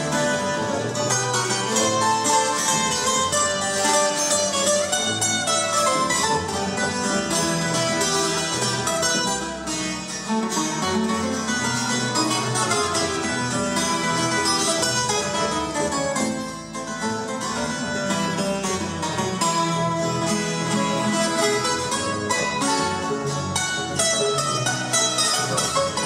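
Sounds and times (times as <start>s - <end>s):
plucked string melody and chords: 0.0s - 26.0s
walking double bass: 0.0s - 26.0s.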